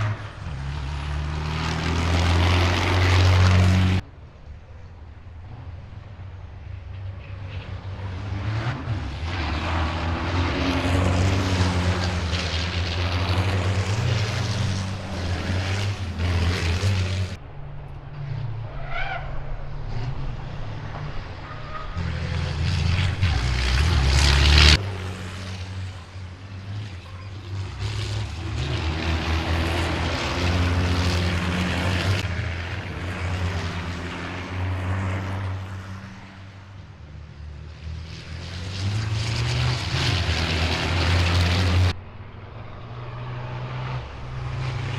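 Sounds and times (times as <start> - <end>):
racing truck diesel engines: 0.0 - 44.9.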